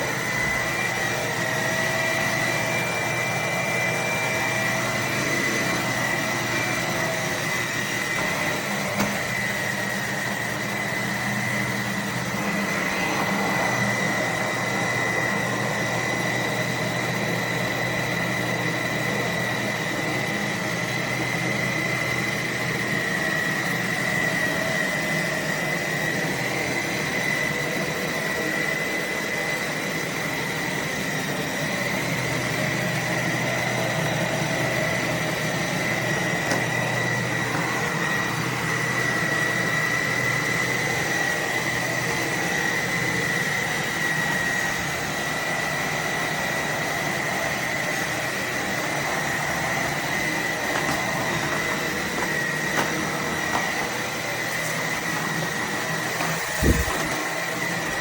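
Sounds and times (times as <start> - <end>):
stick vacuum motor running: 0.0 - 58.0.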